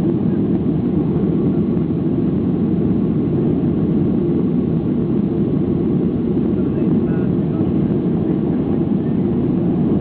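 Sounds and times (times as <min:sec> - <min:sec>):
jet engines roaring in cabin: 0:00.0 - 0:10.0.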